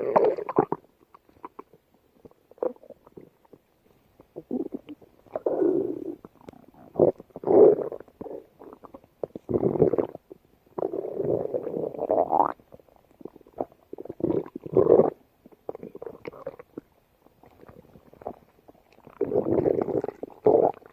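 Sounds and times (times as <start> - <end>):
stomach rumbling: 0.0 - 20.9.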